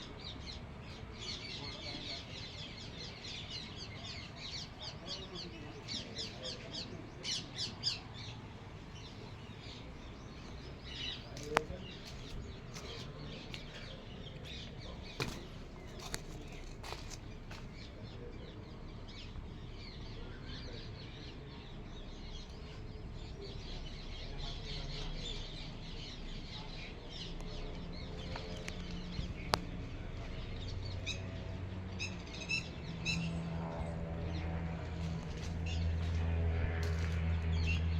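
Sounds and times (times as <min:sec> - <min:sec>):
birds chirping and calling: 0:00.0 - 0:37.9.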